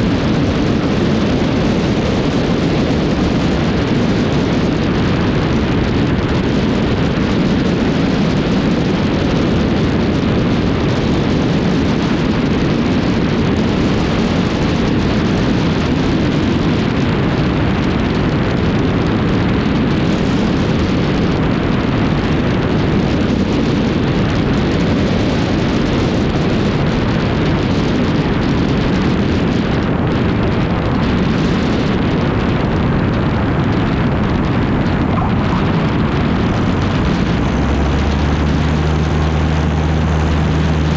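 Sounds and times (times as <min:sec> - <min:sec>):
wind rushing: 0:00.0 - 0:24.8, 0:29.1 - 0:40.9
plane engine and propeller drone: 0:00.0 - 0:40.9.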